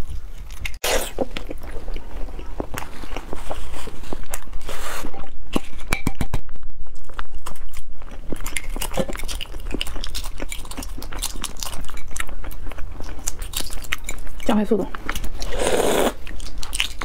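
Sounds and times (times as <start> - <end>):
chewing: 0.0 - 5.6, 6.5 - 17.0.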